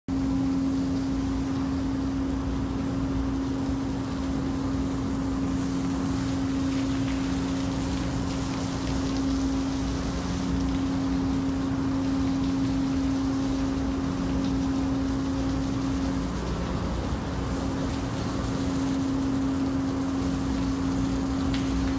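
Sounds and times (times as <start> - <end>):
constant tone: 0.1 - 21.9.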